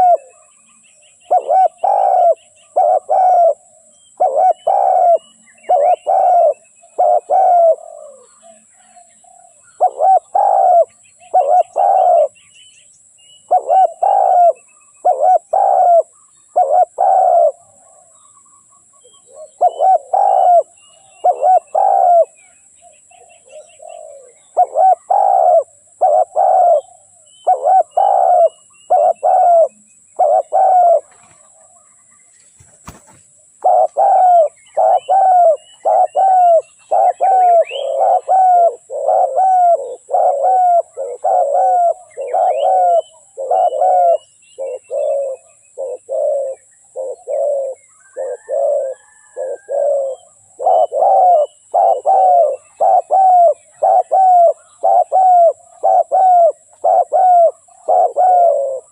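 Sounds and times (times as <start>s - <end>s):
dove cooing: 0.0s - 12.4s, 13.4s - 18.2s, 19.0s - 22.4s, 23.0s - 31.9s, 32.6s - 58.9s
faint small birds chirping: 0.0s - 58.9s.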